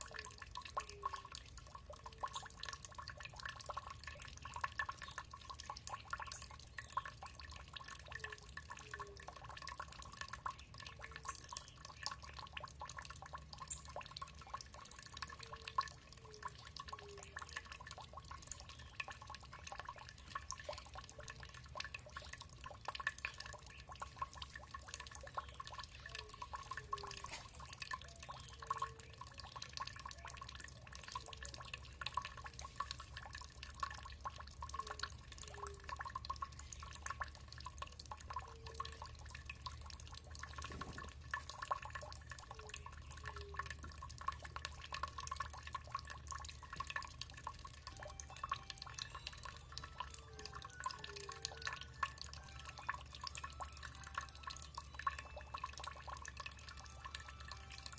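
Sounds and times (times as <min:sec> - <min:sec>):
water dripping and trickling: 0:00.0 - 0:57.9.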